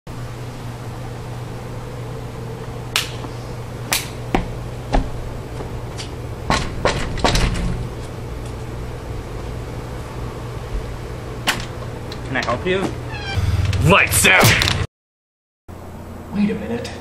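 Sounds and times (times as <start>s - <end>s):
steady low hum: 0.1s - 14.9s, 15.7s - 17.0s.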